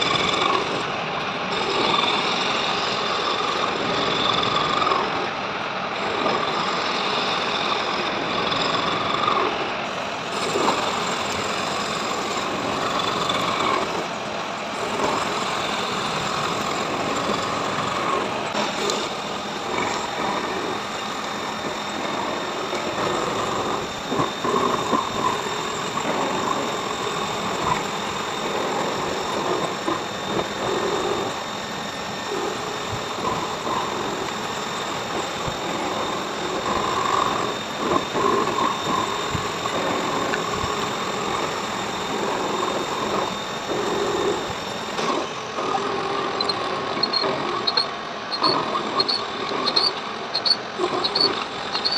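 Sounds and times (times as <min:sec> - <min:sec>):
machine high whine: 0:00.0 - 0:51.9
rattling of cutting: 0:06.0 - 0:51.9.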